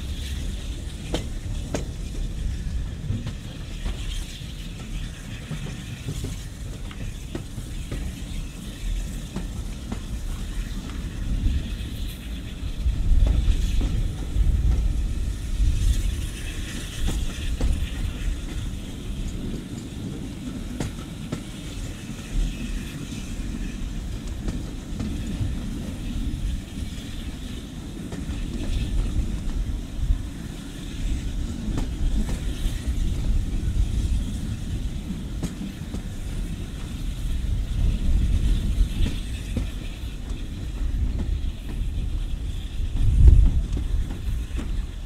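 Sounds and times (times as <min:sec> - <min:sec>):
train carriages rumbling on track: 0:00.0 - 0:45.0
wheels clicking over rail joints: 0:00.0 - 0:45.0.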